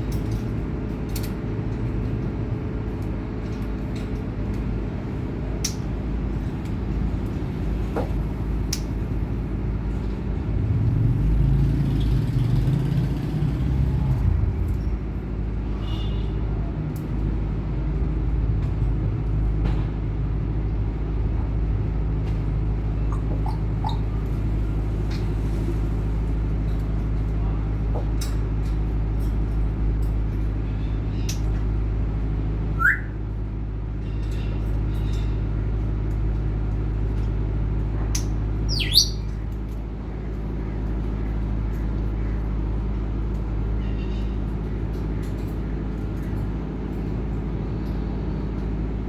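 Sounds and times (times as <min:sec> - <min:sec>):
low mechanical rumble: 0:00.0 - 0:49.0.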